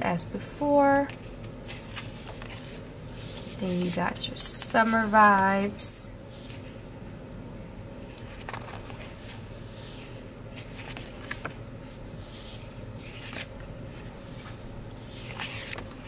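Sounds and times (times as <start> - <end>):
low steady hum: 0.0 - 16.0
paper sheets rustling: 0.9 - 6.8, 8.1 - 16.0.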